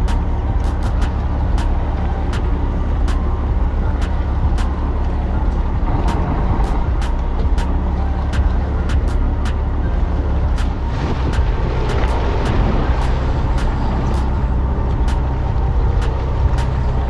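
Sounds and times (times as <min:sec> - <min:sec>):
sharp ticks and knocks: 0:00.0 - 0:04.8, 0:05.4 - 0:17.0
boat engine droning: 0:00.0 - 0:17.0.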